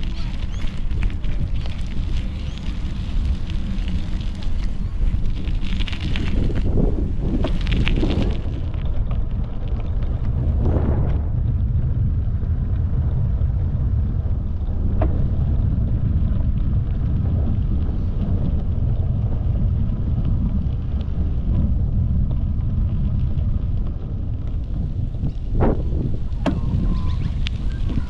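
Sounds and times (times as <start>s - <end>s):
bicycle rolling noise: 0.0s - 28.0s
wind buffeting microphone: 0.0s - 28.0s.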